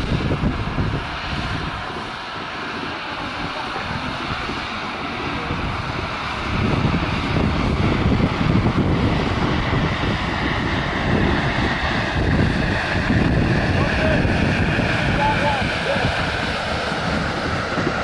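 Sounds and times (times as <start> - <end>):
locomotive rumble and hiss: 0.0 - 18.0
wind on microphone: 0.0 - 18.0.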